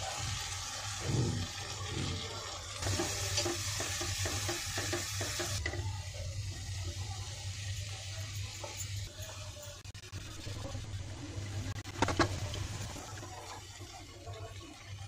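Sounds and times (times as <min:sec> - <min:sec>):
food sizzling: 0:00.0 - 0:15.0.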